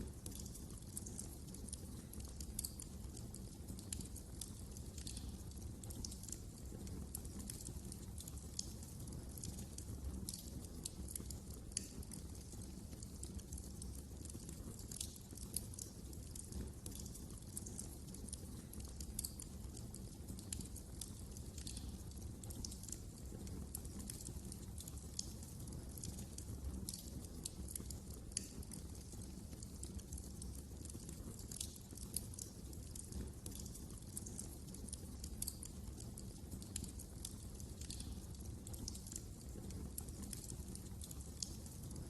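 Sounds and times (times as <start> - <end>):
flames rumbling: 0.0 - 42.0
wood fire pops and snaps: 0.0 - 42.0.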